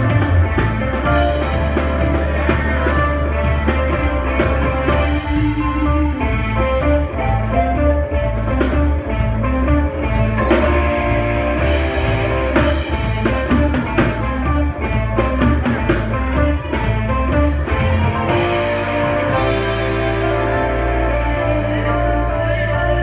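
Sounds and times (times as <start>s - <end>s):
deep bass notes: 0.0s - 23.0s
live band playing: 0.0s - 23.0s.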